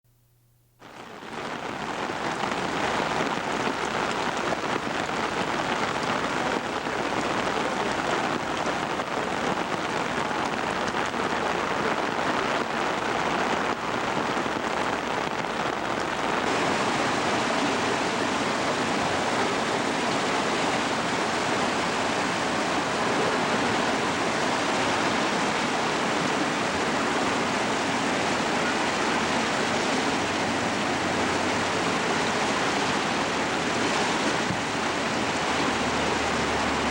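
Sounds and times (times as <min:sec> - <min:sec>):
heavy rain falling: 0:00.8 - 0:36.9
river torrent rushing: 0:00.8 - 0:36.9.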